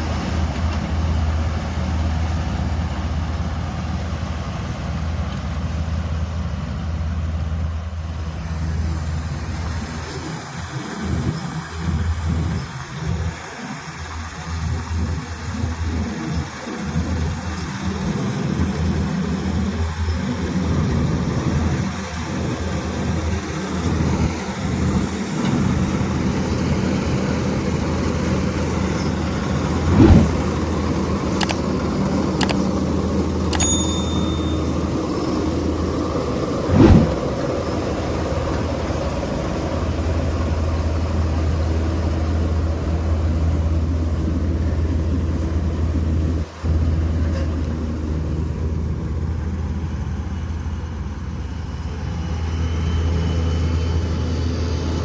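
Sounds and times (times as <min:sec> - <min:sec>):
harvester engine droning: 0:00.0 - 0:55.0.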